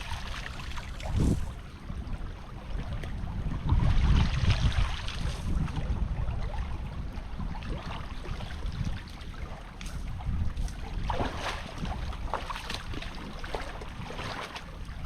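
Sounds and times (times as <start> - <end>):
creek water sloshing: 0.0 - 15.0
wind buffeting microphone: 0.0 - 15.0.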